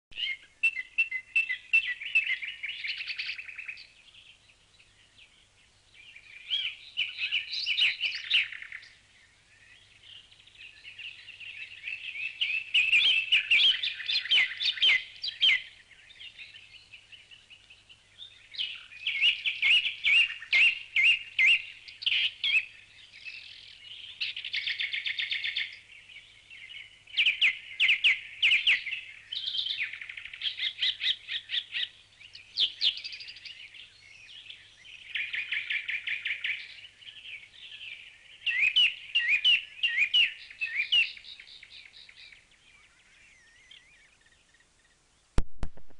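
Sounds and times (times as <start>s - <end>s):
songbird chirps and trills: 0.1s - 45.4s.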